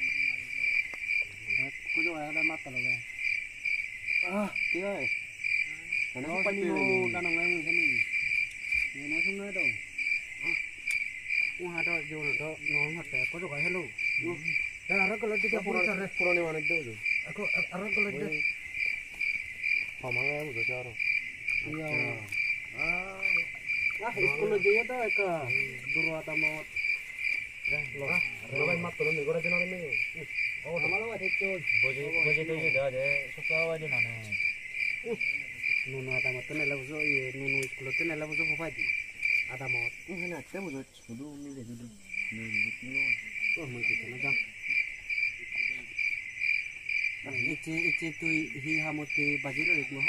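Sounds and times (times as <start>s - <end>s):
men talking: 0.0s - 3.2s, 4.2s - 5.3s, 6.0s - 10.7s, 11.4s - 46.2s, 47.2s - 50.0s
crickets chirping: 0.0s - 50.0s.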